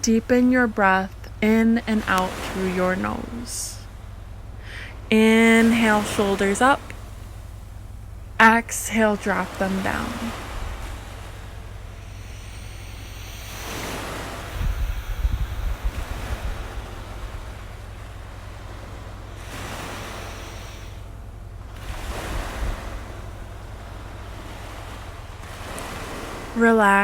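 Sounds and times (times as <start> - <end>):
ocean waves washing onto shore: 0.0 - 27.0.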